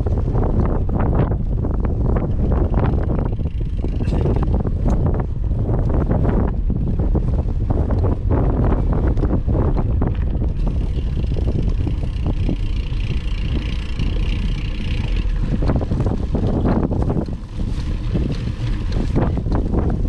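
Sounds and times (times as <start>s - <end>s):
wind buffeting microphone: 0.0s - 20.0s
bike rattling and knocking: 1.9s - 6.5s, 7.8s - 20.0s.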